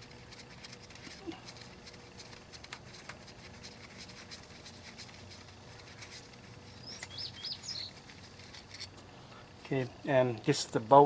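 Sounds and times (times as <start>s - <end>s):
light scratching: 0.0s - 9.9s.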